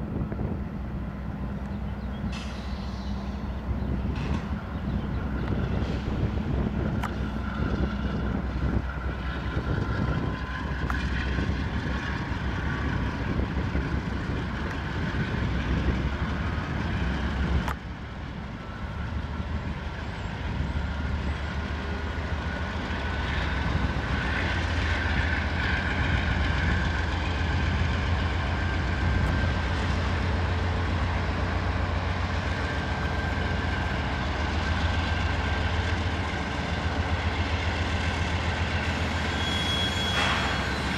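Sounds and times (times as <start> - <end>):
locomotive engine drone: 0.0 - 40.9.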